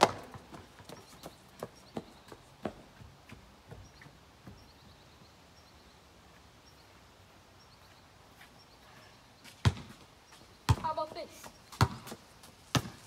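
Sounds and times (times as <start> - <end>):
small birds trilling: 0.5 - 11.8.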